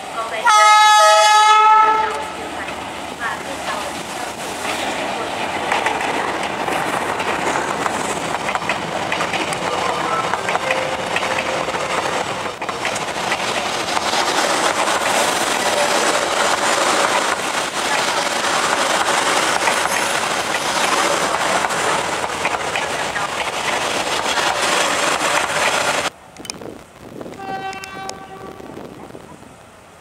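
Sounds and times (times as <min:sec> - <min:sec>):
train wheels rumbling and clattering: 0:01.9 - 0:29.8.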